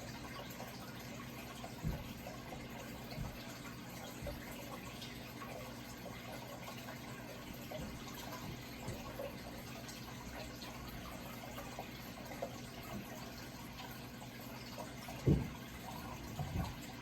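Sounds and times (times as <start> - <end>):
running water splashing: 0.0 - 17.0.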